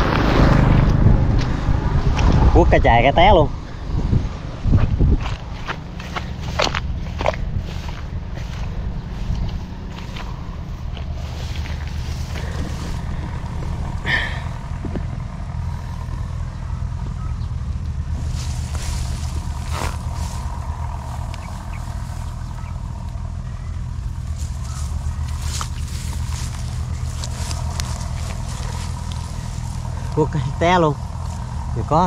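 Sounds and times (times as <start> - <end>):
engine running drone: 0.0 - 32.0.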